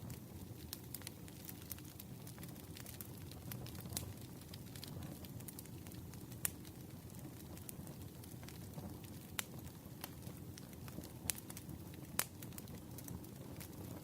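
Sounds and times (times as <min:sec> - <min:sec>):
campfire crackling: 0:00.0 - 0:14.0
sharp pops of burning wood: 0:00.0 - 0:14.0.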